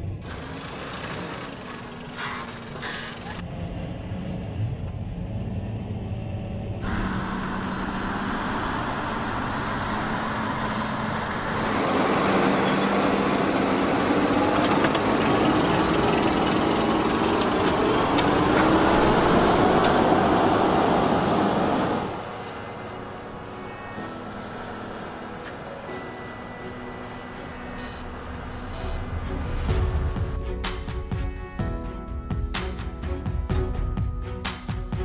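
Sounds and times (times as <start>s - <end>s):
tractor engine under heavy load: 0.0s - 34.5s.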